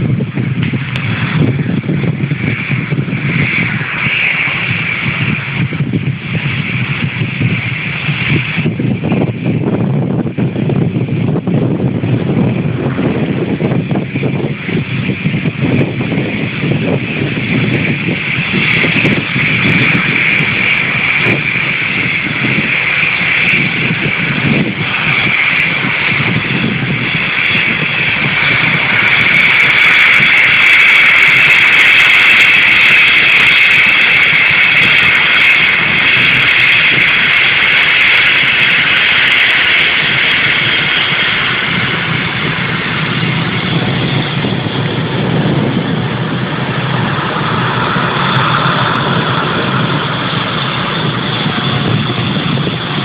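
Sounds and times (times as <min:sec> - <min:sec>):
jet engines whining and rumbling: 0:00.0 - 0:53.0.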